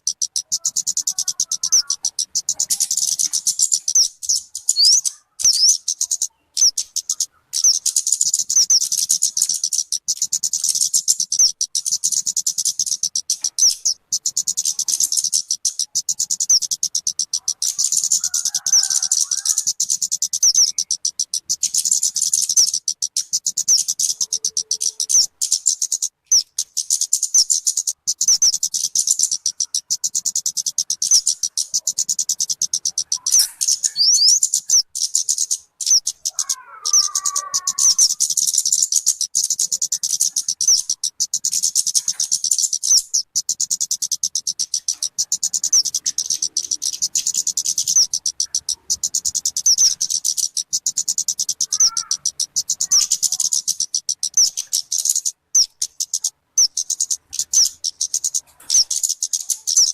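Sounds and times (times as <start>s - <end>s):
bird chattering chirps: 0.0s - 59.9s.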